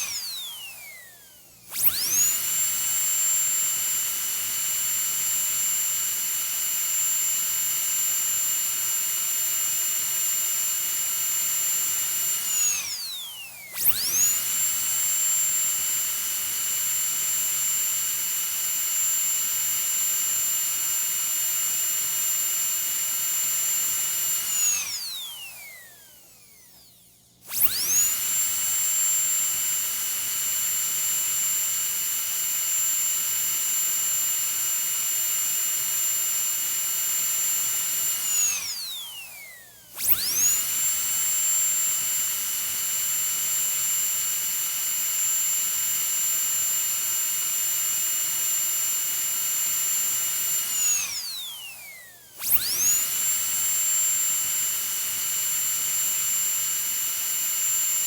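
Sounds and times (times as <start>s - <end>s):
dentist's drill whining: 0.0s - 58.0s.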